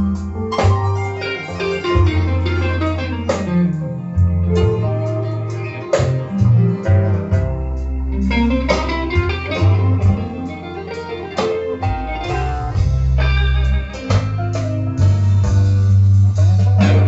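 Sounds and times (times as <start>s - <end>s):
blues guitar and bass: 0.0s - 17.0s.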